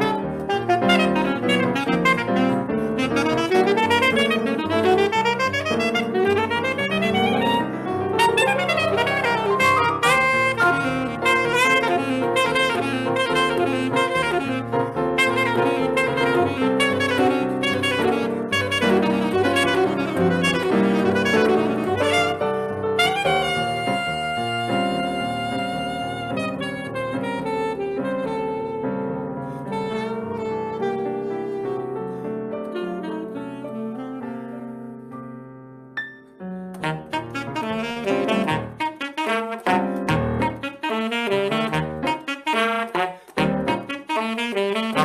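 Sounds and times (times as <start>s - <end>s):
saxophone playing fast runs: 0.0s - 29.0s, 29.7s - 32.1s, 36.8s - 45.0s
piano accompaniment: 0.0s - 45.0s.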